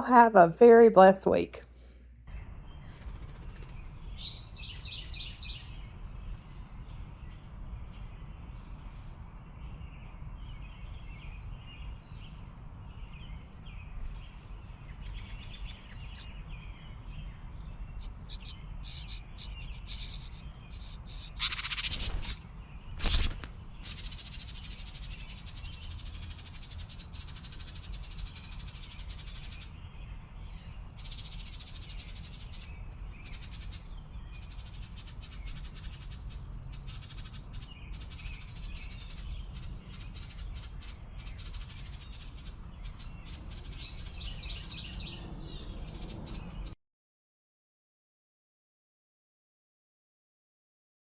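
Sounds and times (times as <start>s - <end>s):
small songbird singing: 2.3s - 46.8s.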